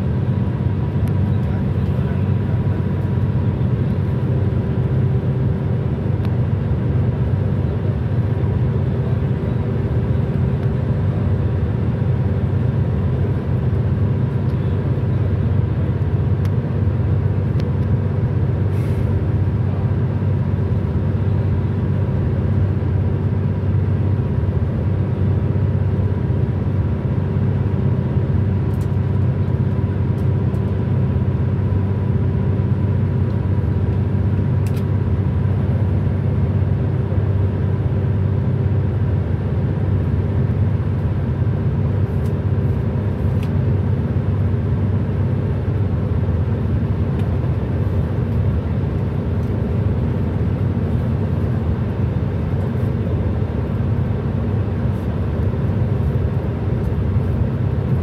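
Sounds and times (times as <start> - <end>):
car road noise at highway speed: 0.0 - 58.0.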